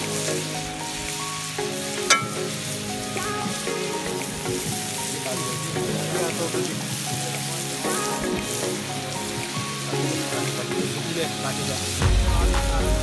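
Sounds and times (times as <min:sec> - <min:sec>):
vegetables sizzling in a wok: 0:00.0 - 0:12.1
background music with held notes: 0:00.0 - 0:13.0.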